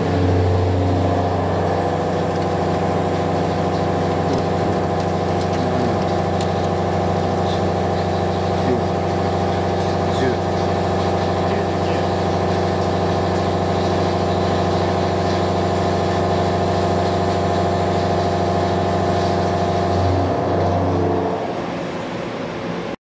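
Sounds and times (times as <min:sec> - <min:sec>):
machining center mechanical hum: 0:00.0 - 0:23.0.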